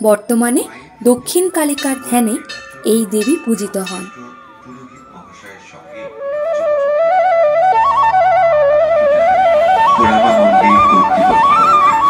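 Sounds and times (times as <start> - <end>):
fuller musical accompaniment: 0.7 - 12.0
solo melody over drone: 0.7 - 12.0.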